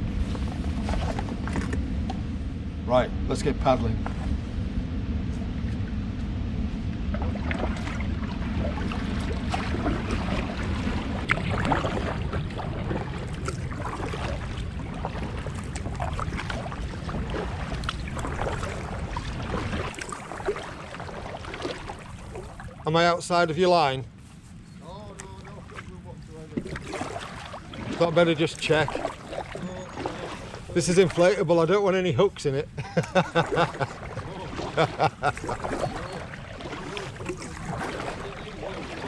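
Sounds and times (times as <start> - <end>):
kayak paddle splashing water: 0.0 - 2.2, 7.1 - 23.4, 24.9 - 39.0
steady low rumble: 0.0 - 39.0.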